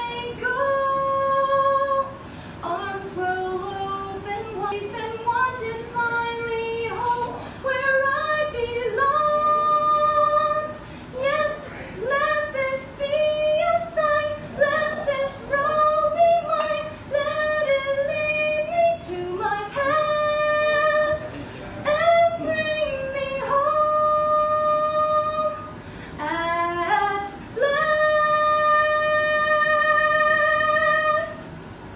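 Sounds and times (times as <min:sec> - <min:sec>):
woman singing opera: 0:00.0 - 0:31.5.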